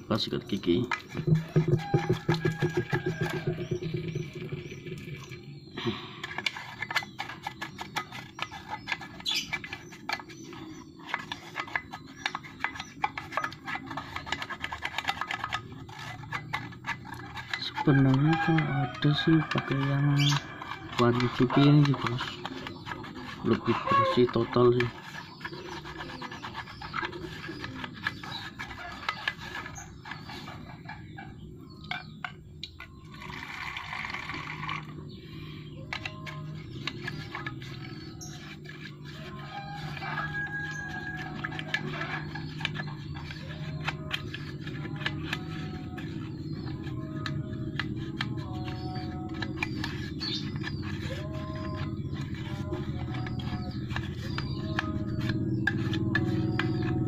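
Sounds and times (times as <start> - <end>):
toothbrush scrubbing plastic cup: 0.9 - 30.7, 33.1 - 34.9, 35.9 - 57.0.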